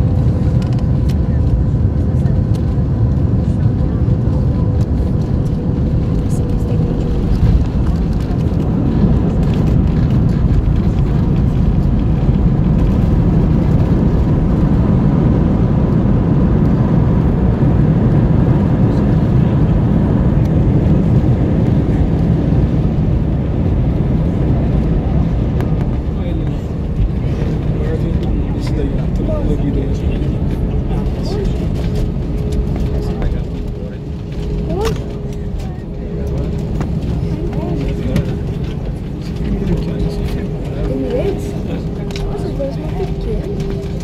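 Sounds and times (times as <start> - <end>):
engine and wheel rumble: 0.0 - 44.0.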